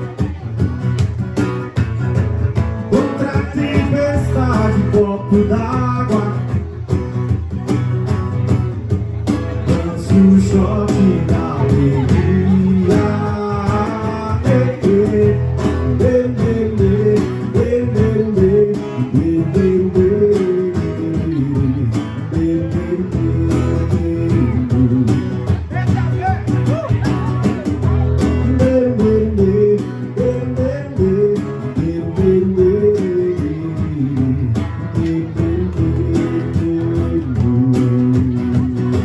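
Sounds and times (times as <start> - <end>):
guitar song instrumental: 0.0 - 39.0.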